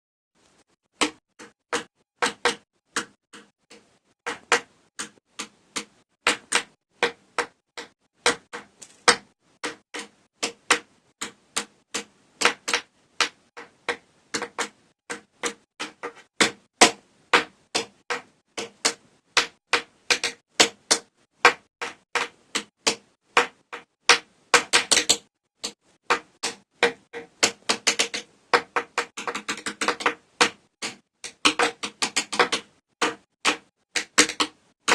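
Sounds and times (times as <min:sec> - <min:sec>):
pencils tapping on hard surface: 0:01.0 - 0:34.9.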